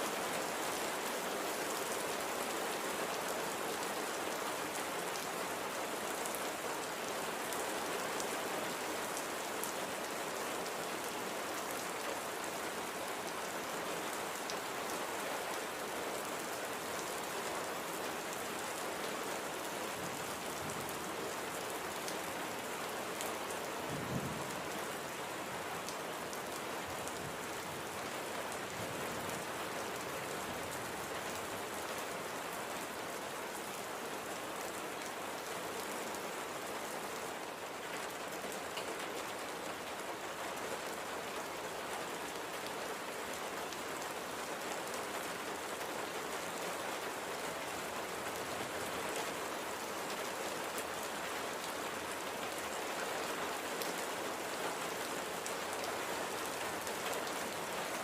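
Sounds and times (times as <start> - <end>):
gentle rain pattering: 0.0 - 58.0.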